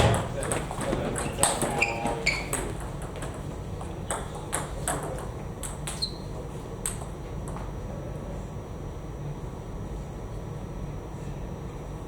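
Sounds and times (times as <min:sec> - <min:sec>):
steady hall hum: 0:00.0 - 0:12.0.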